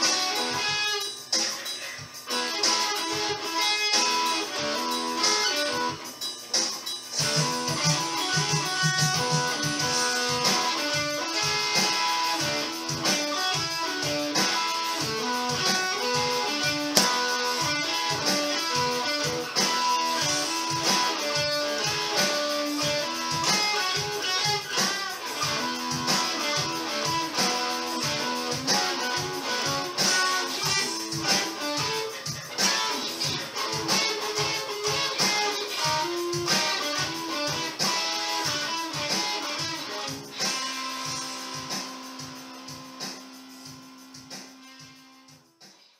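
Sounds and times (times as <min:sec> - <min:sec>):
electric guitar funk riff: 0:00.0 - 0:45.3.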